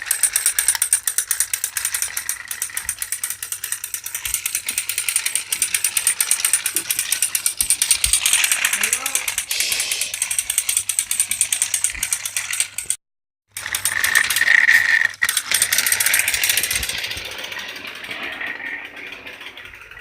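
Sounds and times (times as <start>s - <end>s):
toy train gearbox whirring: 0.0s - 20.0s.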